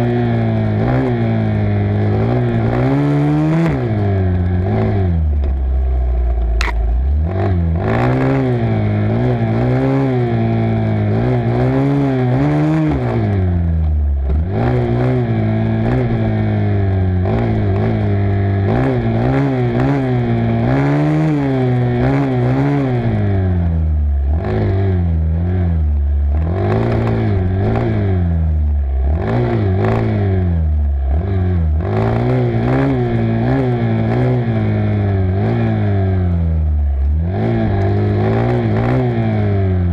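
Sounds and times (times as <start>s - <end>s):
dirt bike engine revving: 0.0s - 5.2s, 6.6s - 13.5s, 14.2s - 23.5s, 24.3s - 36.4s, 37.2s - 39.9s.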